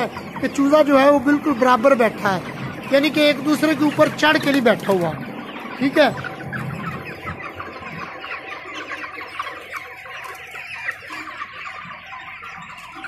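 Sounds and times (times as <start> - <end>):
chickens clucking and peeping: 0.0 - 13.0.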